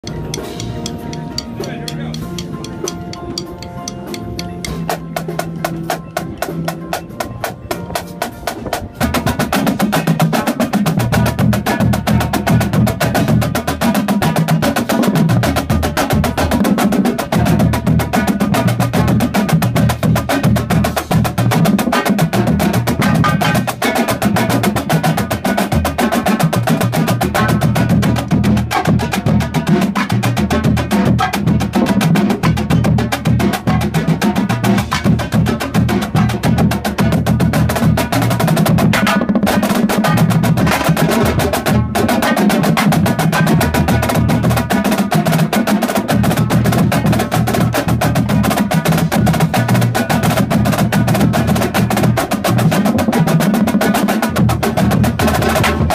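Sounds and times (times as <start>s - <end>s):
bass drums: 0.0s - 55.9s
marching drumline playing: 0.0s - 55.9s
snare drums playing fast: 0.0s - 55.9s.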